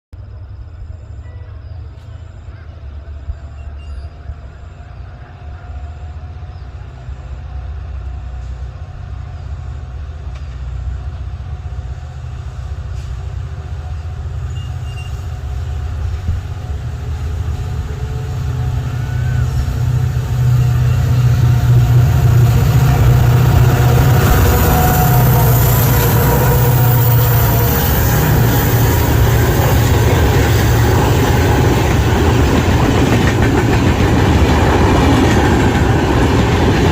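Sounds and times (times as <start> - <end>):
diesel locomotive engines droning: 0.2 - 36.9.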